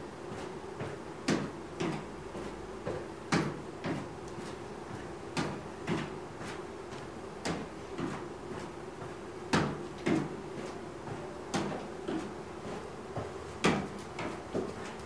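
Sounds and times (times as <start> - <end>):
footsteps on a step: 0.8 - 15.0.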